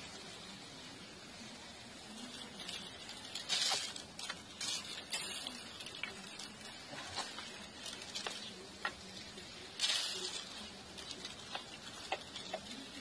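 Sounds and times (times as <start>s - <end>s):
pump sprayer squirting water: 2.4s - 13.0s.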